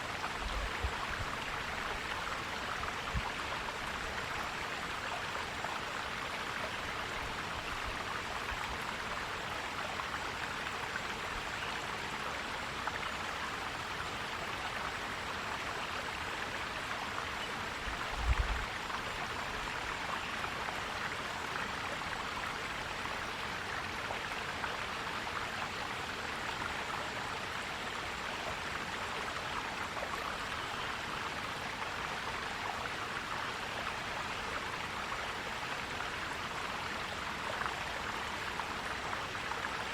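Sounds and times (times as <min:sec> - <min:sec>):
stream gurgling: 0:00.0 - 0:39.9.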